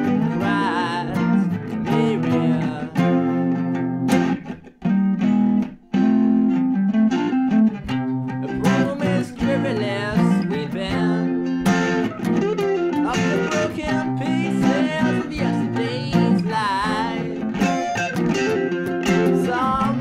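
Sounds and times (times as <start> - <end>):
acoustic guitar chords: 0.0 - 20.0
electric guitar lead line: 0.0 - 20.0.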